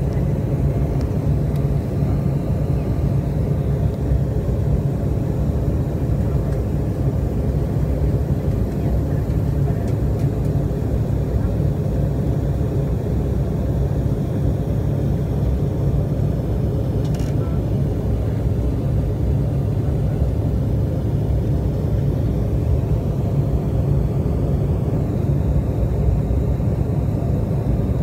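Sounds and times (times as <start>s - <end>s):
jet engine cabin rumble: 0.0s - 28.0s.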